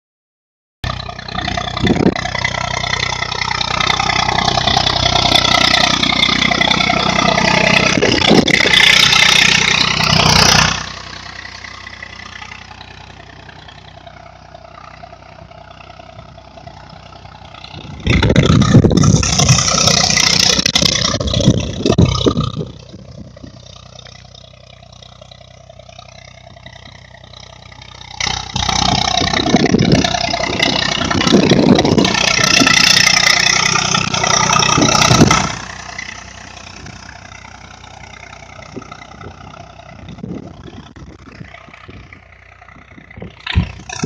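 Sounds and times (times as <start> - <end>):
tractor engine revving: 0.8 - 44.0.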